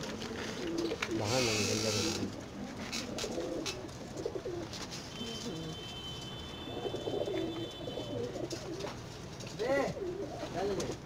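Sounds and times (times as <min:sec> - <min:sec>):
pigeons cooing: 0:00.0 - 0:05.7, 0:06.6 - 0:11.0.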